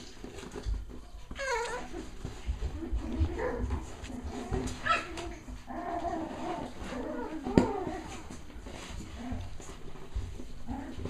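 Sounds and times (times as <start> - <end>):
puppies whining and yipping: 1.2 - 11.0.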